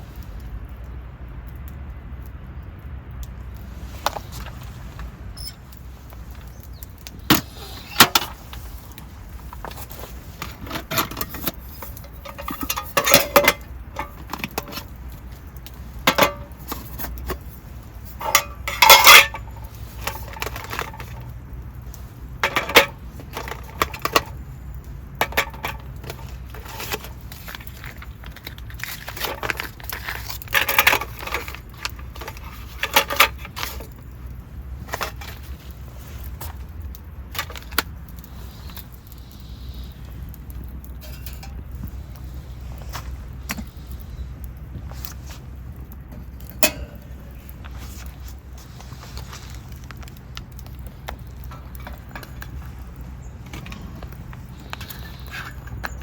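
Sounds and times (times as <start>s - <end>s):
camp gear clinking and clattering: 3.8s - 39.2s, 40.2s - 44.0s, 44.8s - 56.0s.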